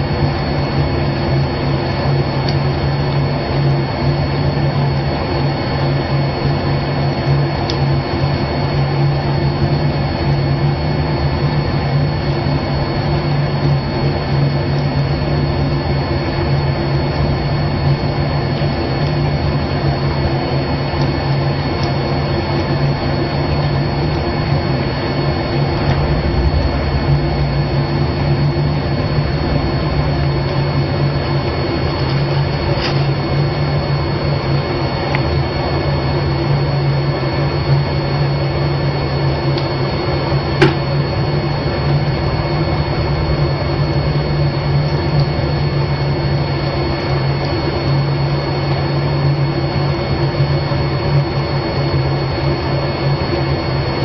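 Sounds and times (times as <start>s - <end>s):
machine drone with low hum: 0.0s - 54.0s.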